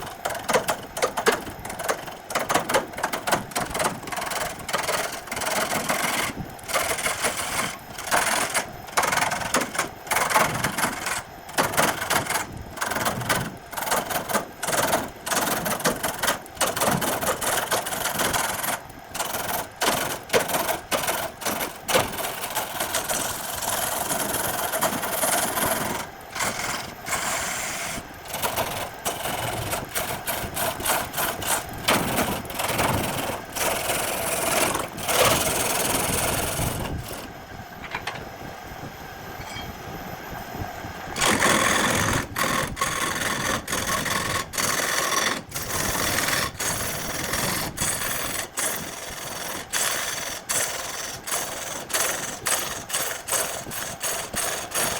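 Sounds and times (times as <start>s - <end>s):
power tool running: 0.0s - 37.4s, 41.1s - 54.9s.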